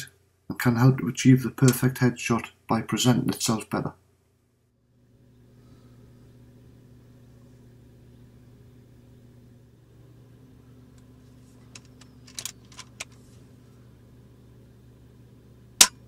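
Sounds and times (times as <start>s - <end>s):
faint engine idling hum: 0.0s - 16.0s.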